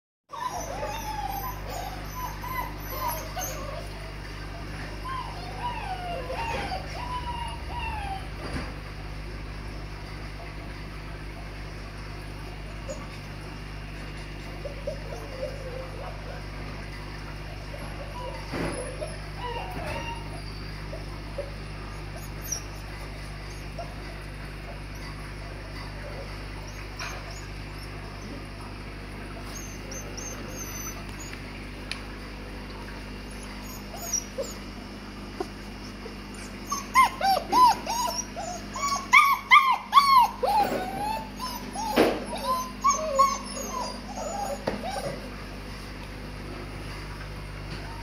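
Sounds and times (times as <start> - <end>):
puppies whimpering and yipping: 0.3 - 31.8, 33.0 - 46.5.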